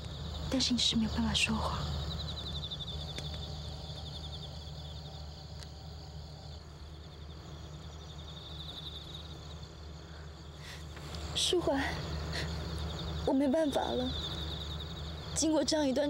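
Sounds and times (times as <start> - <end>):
crickets trilling: 0.0 - 16.0
high insect trill: 0.0 - 16.0
steady low hum: 0.0 - 16.0.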